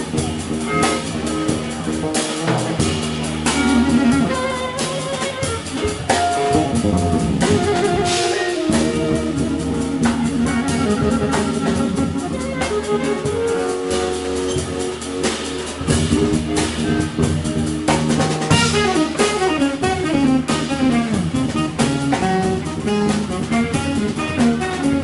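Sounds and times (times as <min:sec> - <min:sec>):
drum kit: 0:00.0 - 0:25.0
electric guitar: 0:00.0 - 0:25.0
jazz-rock band playing: 0:00.0 - 0:25.0.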